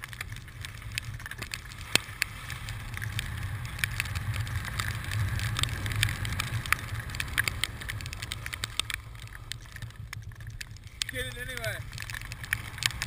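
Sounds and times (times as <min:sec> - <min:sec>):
skis scraping on snow: 0:00.0 - 0:13.0
wind rumbling over camera: 0:00.0 - 0:13.0.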